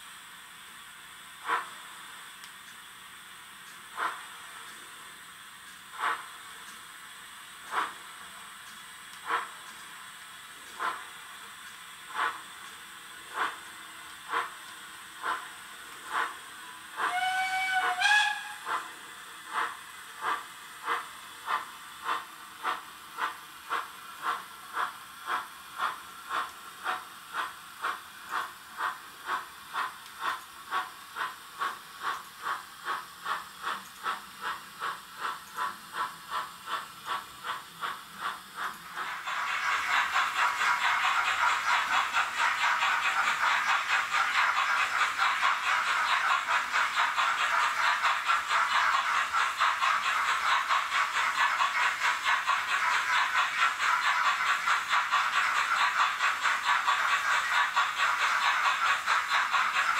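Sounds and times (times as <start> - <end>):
continuous hiss of steam: 0.0 - 59.9
steam exhaust chuffs: 0.0 - 59.9.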